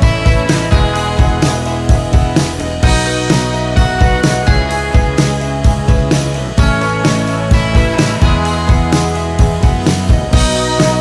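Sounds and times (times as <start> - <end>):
upbeat guitar music: 0.0 - 11.0.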